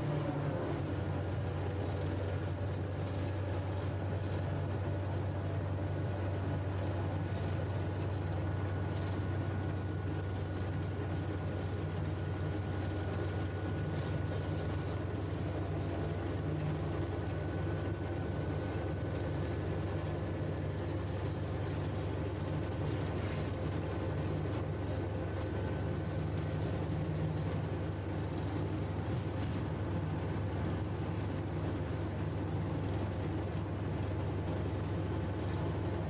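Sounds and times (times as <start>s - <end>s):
faint steady whine: 0.0s - 36.0s
locomotive diesel engine roaring: 0.0s - 36.0s.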